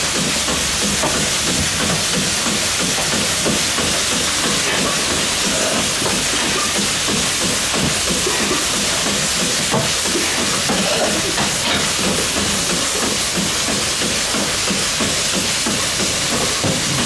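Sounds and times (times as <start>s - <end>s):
milking machine vacuum hiss: 0.0s - 17.0s.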